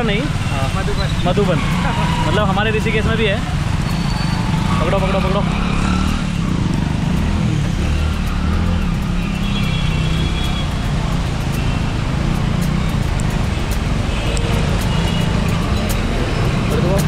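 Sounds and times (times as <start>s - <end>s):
motorbike engine and wind rumble: 0.0s - 17.0s
vehicles hissing on wet road: 0.0s - 17.0s.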